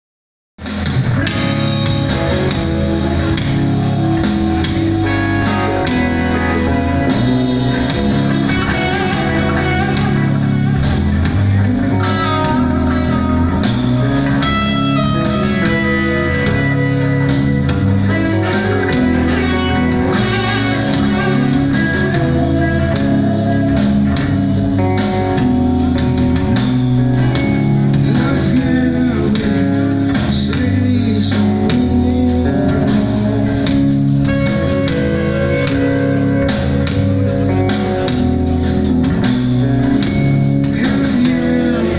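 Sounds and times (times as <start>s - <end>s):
bass guitar: 0.6s - 41.9s
distorted electric guitars: 0.6s - 41.9s
drum kit: 0.6s - 41.9s.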